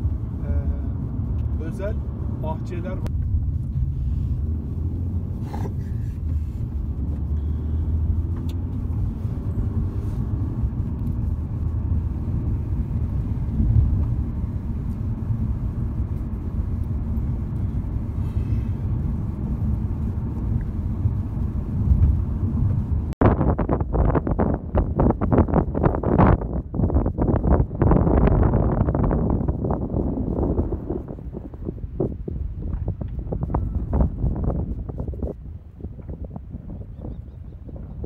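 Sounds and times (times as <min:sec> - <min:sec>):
car road rumble: 0:00.0 - 0:38.0
wind buffeting microphone: 0:03.0 - 0:38.0.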